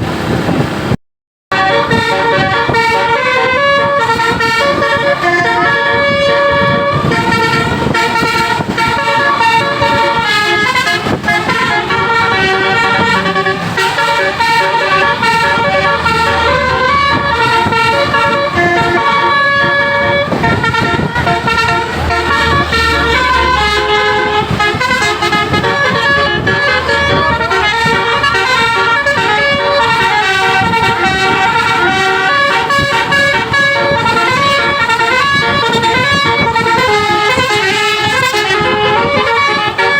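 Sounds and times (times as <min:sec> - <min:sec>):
musical air horn melody: 0:01.5 - 0:39.9.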